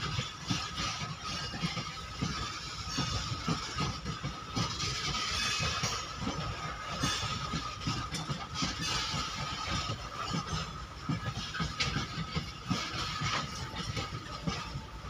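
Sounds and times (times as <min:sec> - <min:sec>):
steel wheels clattering over rail joints: 0:00.0 - 0:15.0.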